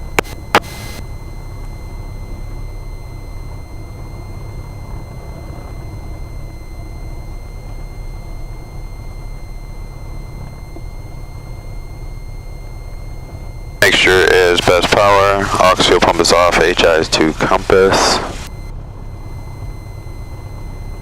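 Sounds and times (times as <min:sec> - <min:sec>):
aircraft engine droning: 0:00.0 - 0:21.0
faint high whine: 0:00.0 - 0:21.0.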